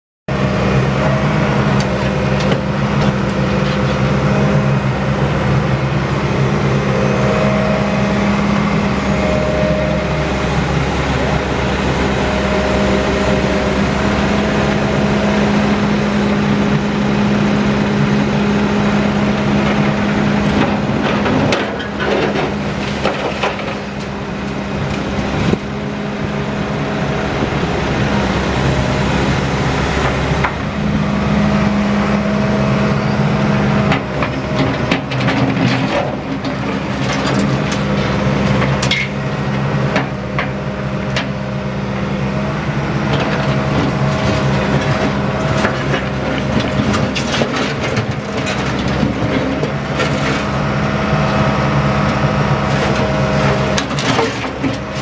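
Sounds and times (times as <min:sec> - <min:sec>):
heavy diesel engines running: 0:00.3 - 0:55.0
concrete striking steel dump body: 0:00.5 - 0:55.0.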